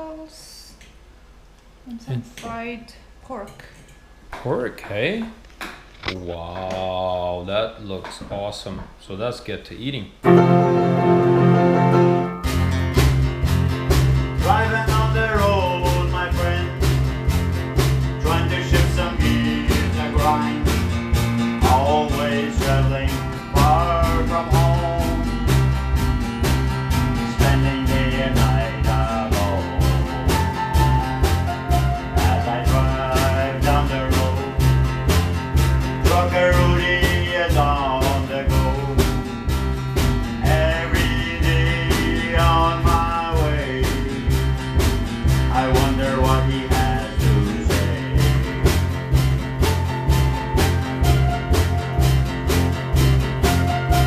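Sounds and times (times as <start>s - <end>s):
country band playing: 10.2s - 54.0s.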